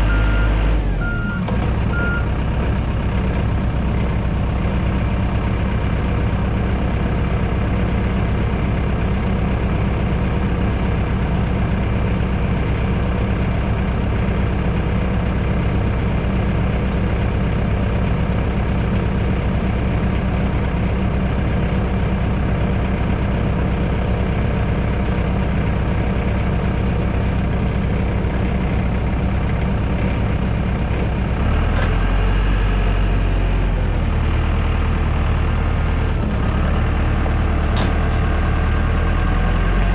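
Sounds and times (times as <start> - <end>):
heavy equipment engine running: 0.0 - 39.9.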